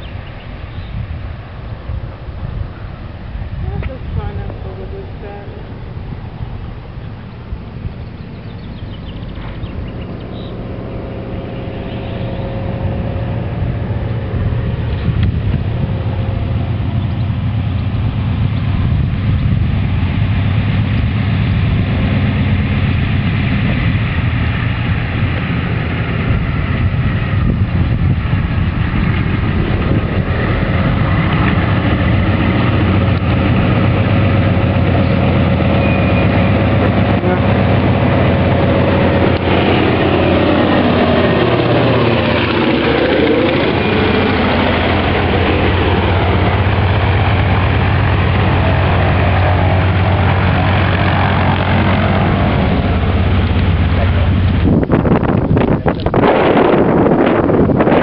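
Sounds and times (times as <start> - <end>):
radial aircraft engine passing: 0.0 - 58.0.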